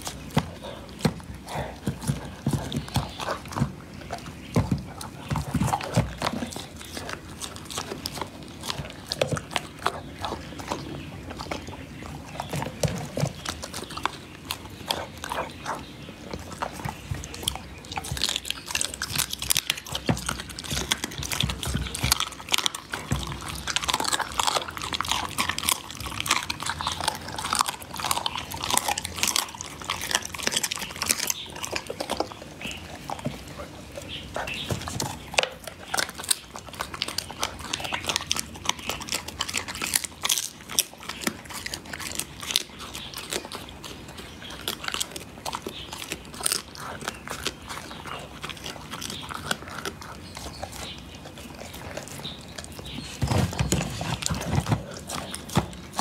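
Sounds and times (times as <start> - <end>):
dog chewing meat and bone: 0.0 - 56.0.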